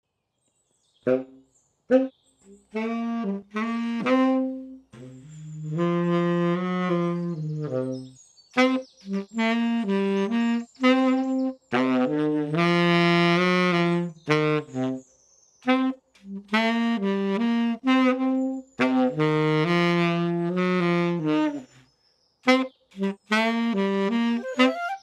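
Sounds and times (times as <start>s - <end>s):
tenor saxophone melody: 1.0s - 15.0s, 15.6s - 21.8s, 22.4s - 25.0s.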